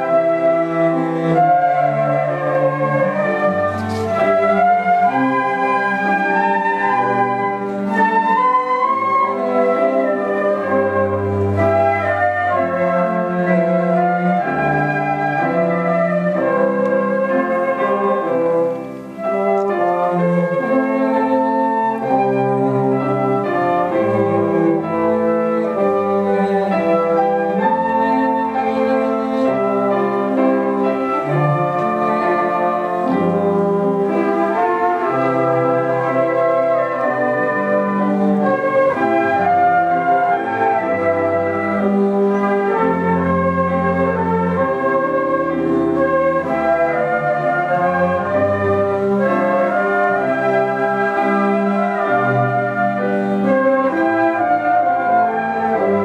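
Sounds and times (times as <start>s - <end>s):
flute ensemble melody: 0.0s - 56.0s.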